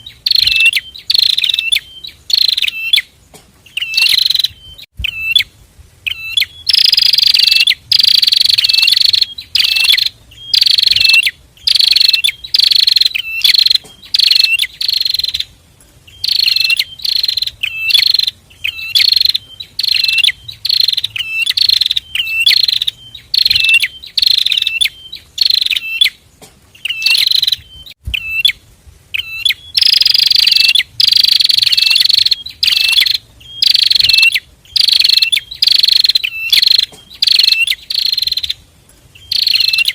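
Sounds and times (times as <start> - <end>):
birds calling in buzzy chirps: 0.0 - 39.9.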